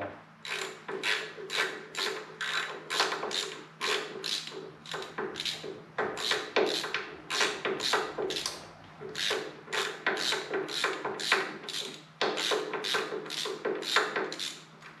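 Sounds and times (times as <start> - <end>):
ratchet wrench clicking: 0.5 - 5.6, 6.2 - 14.6.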